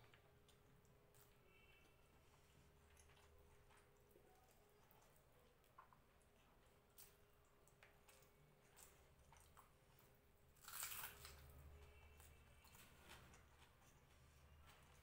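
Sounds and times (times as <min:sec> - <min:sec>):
close-up chewing: 0:02.2 - 0:15.0.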